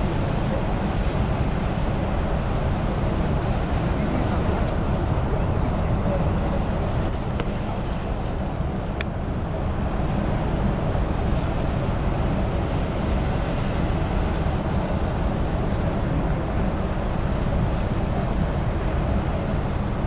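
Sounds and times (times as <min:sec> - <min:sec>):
boat engines rumbling: 0:00.0 - 0:20.0.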